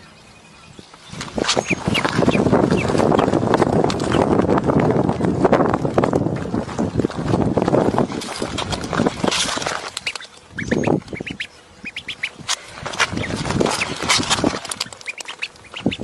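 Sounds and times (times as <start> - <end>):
duckling peeping: 0.0 - 16.0
rough rustling: 1.0 - 16.0.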